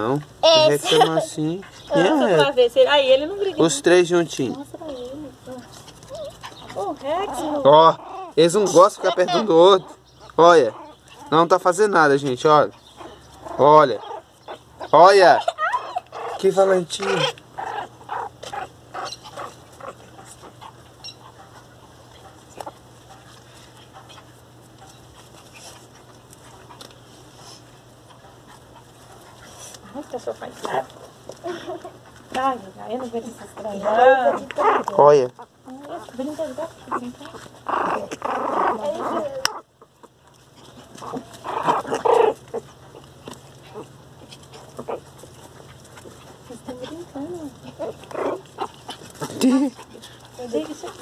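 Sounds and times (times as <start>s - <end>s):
puppies scuffling: 0.0s - 51.0s.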